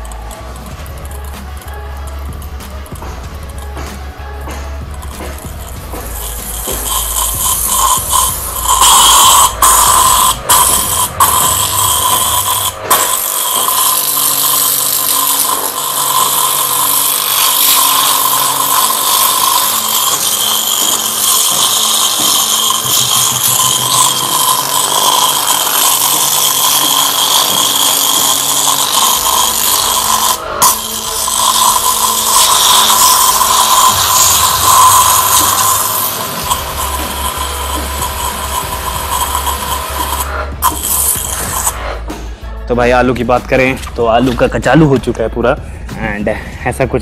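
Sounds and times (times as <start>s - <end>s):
water jet hissing: 0.0s - 42.3s
pressure washer running: 0.0s - 42.5s.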